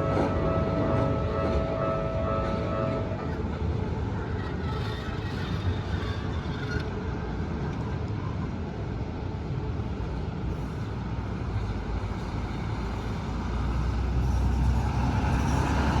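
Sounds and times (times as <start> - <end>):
trucks and buses running: 0.0 - 16.0.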